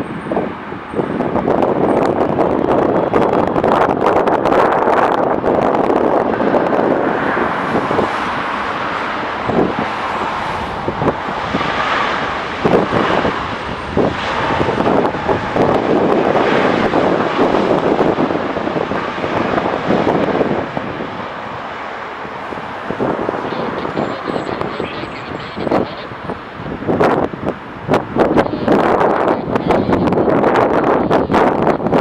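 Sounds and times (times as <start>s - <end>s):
jet engine rushing: 0.0s - 32.0s
wind buffeting microphone: 0.0s - 32.0s.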